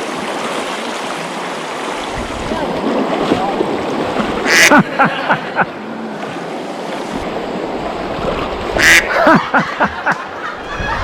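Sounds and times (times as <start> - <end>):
creek water rushing over rocks: 0.0 - 10.6.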